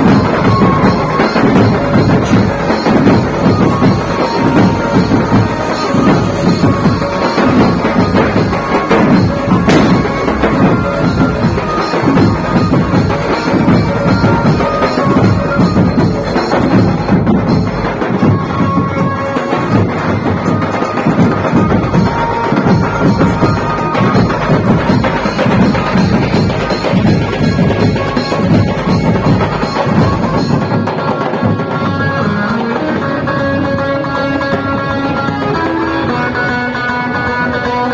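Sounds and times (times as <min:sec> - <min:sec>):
loud band music with drums: 0:00.0 - 0:37.9.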